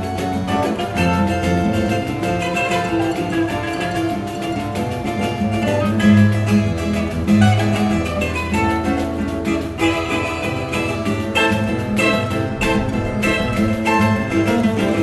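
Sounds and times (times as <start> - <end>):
plucked string ensemble music: 0.0 - 15.0.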